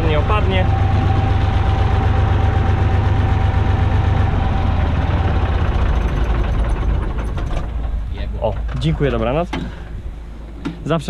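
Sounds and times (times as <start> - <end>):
thin steady whine: 0.0 - 11.0
tractor engine idling: 0.0 - 11.0.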